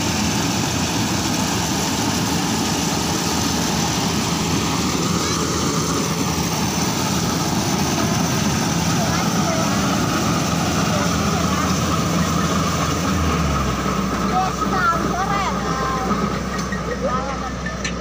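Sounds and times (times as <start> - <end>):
diesel engine running: 0.0 - 18.0
threshing machinery running: 0.0 - 18.0.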